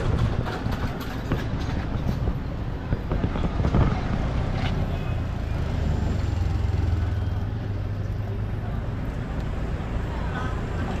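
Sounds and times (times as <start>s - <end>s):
motor vehicles running: 0.0s - 11.0s.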